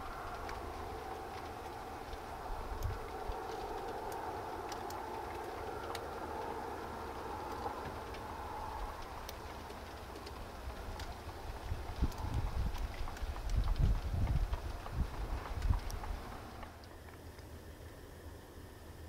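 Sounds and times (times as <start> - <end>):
light ticks: 0.0 - 18.0
distant mechanical drone: 0.0 - 19.0.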